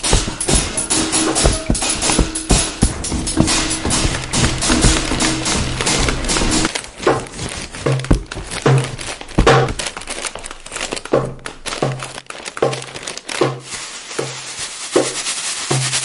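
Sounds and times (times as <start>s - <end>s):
clicks and crinkling noise: 0.0s - 14.3s.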